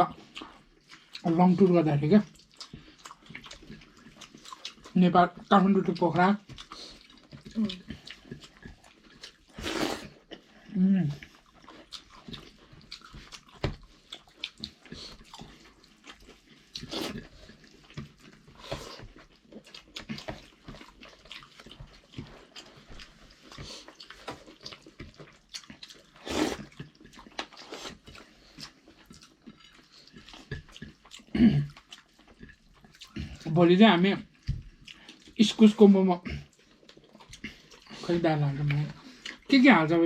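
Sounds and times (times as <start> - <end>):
chewing and mouth smacks: 0.1 - 33.5, 34.2 - 35.4, 36.3 - 39.5.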